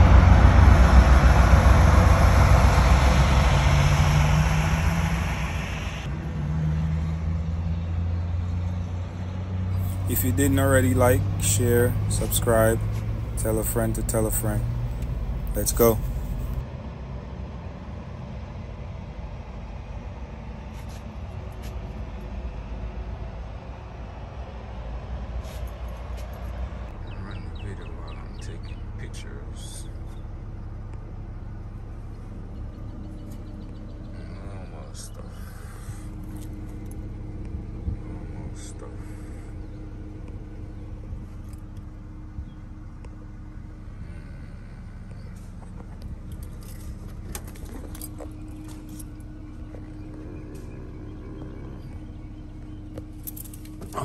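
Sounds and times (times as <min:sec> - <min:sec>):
truck engine idling: 0:00.0 - 0:06.4, 0:07.1 - 0:54.0.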